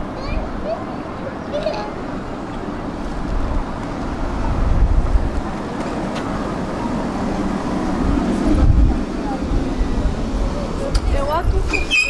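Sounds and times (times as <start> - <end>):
tram rolling on rails: 0.0 - 12.0.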